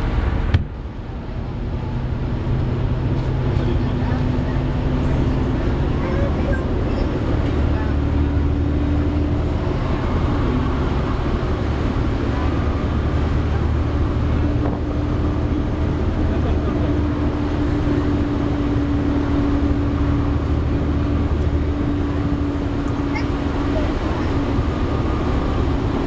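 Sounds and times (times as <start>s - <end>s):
bus cooling fan whining: 0.0s - 26.0s
low engine drone: 0.0s - 26.0s.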